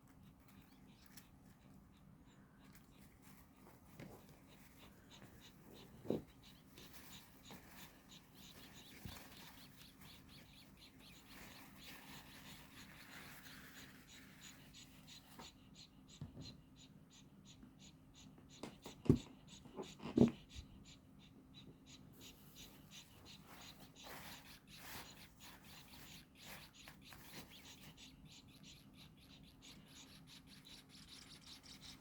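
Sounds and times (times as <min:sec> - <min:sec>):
baby birds cheeping: 0:00.0 - 0:32.0.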